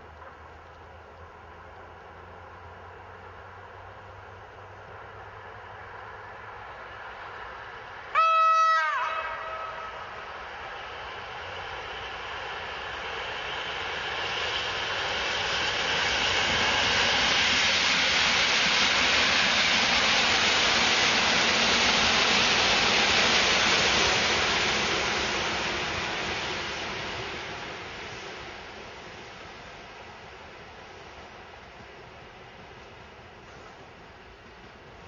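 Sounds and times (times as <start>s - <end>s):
electric train passing: 0.9s - 35.0s.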